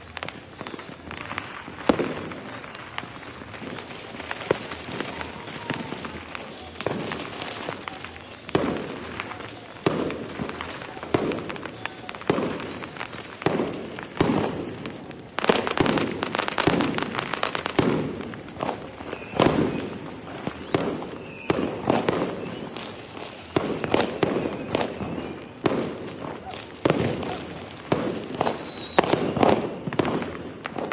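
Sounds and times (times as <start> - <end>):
fireworks bangs: 0.0 - 30.9
fireworks crackling: 0.0 - 30.9.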